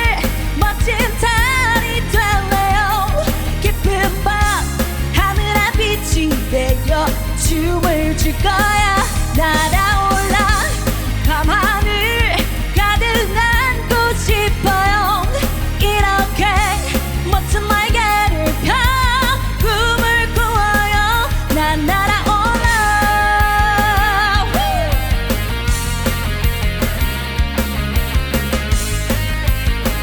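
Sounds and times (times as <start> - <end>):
rock band music: 0.0 - 30.0.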